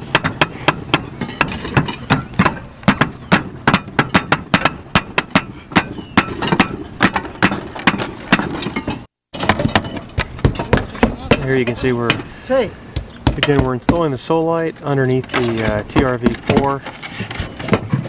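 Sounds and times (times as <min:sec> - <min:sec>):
hammers driving nails: 0:00.0 - 0:12.3, 0:13.0 - 0:14.2, 0:15.3 - 0:18.0.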